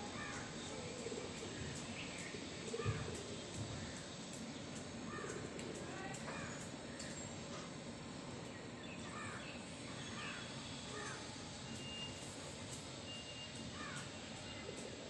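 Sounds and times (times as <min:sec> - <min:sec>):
birds calling: 0:00.1 - 0:07.8, 0:08.4 - 0:15.0.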